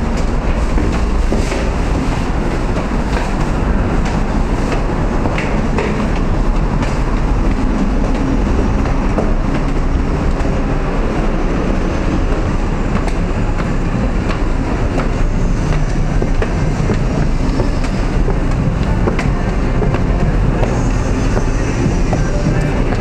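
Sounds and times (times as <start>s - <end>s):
footsteps on stone stairs: 0.0s - 23.0s
loud rumbling noise: 0.0s - 23.0s.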